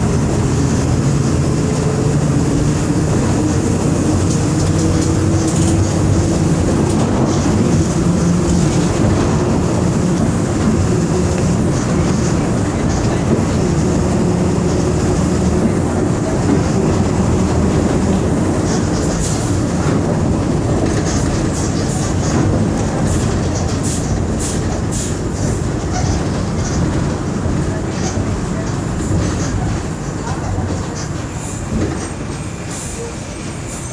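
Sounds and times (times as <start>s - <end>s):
diesel engine drone: 0.0s - 33.6s
road noise: 0.0s - 33.9s
rattles and clicks: 3.1s - 32.4s.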